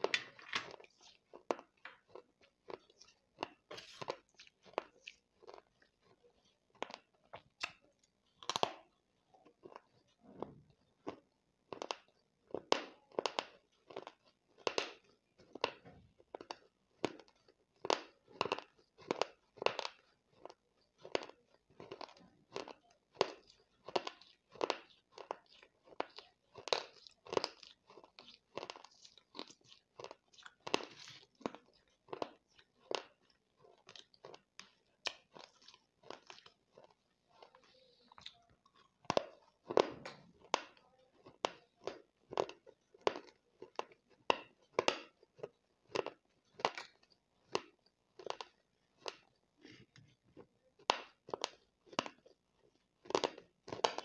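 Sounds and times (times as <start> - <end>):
chewing crunchy clay: 0.0 - 54.0.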